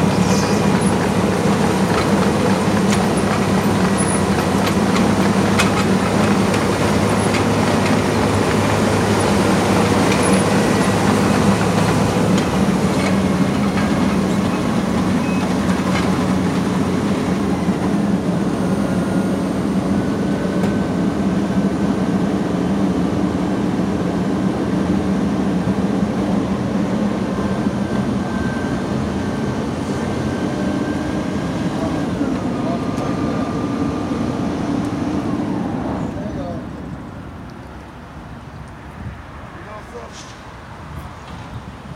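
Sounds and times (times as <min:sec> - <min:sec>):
conveyor belt running: 0:00.0 - 0:36.8
milling machine diesel drone: 0:00.0 - 0:37.4.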